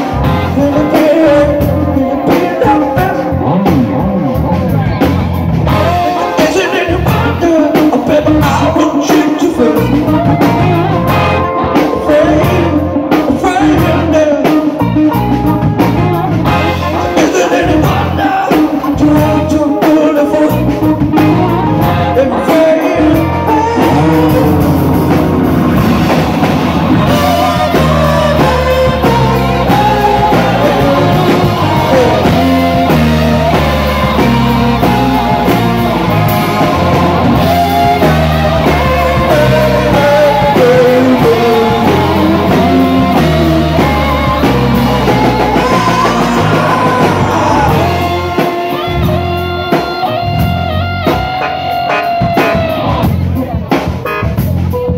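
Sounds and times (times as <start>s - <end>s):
person singing: 0.0s - 5.0s, 5.7s - 25.3s, 26.8s - 53.6s
bass guitar: 0.0s - 54.9s
drum kit: 0.0s - 54.9s
electric guitar: 0.0s - 54.9s.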